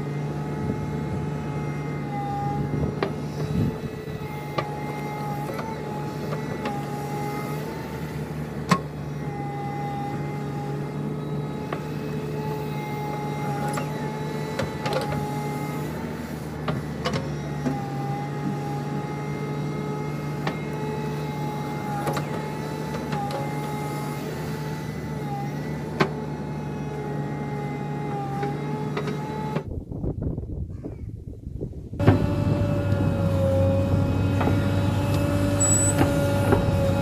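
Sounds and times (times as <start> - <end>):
diesel engine running under load: 0.0 - 30.2, 31.4 - 37.0.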